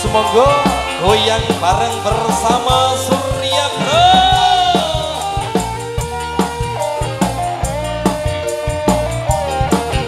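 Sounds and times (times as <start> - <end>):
bass: 0.0 - 10.0
electric guitar melody: 0.0 - 10.0
steady drum beat: 0.0 - 10.0.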